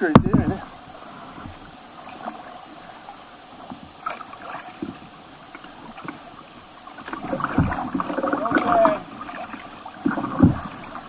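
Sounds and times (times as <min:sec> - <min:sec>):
faint splashes: 0:00.0 - 0:11.0
water gurgling around kayak hull: 0:00.0 - 0:11.0.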